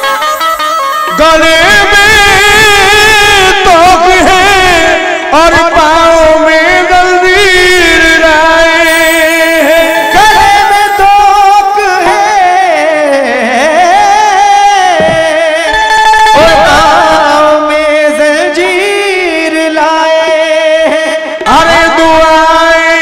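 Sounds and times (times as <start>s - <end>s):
harmonium accompaniment: 0.0s - 23.0s
man singing ornamented notes: 0.0s - 23.0s.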